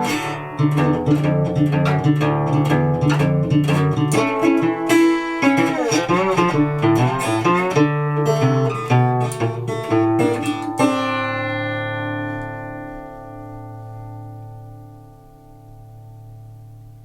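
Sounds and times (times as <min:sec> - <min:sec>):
slide resonator guitar: 0:00.0 - 0:17.0.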